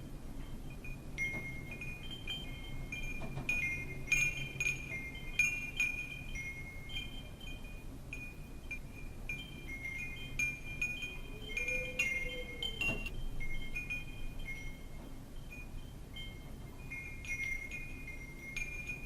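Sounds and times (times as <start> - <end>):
wind chimes ringing: 0.4 - 19.0.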